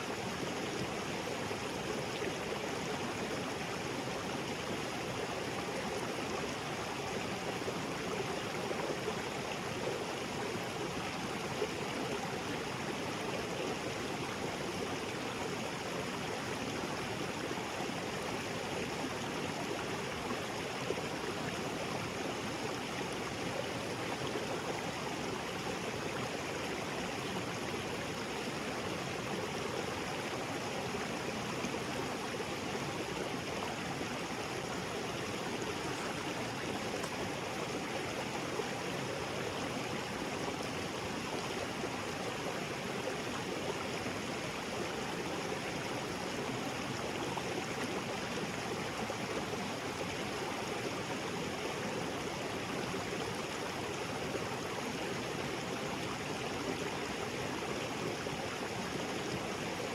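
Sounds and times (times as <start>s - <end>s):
small waterfall splashing: 0.0s - 59.9s.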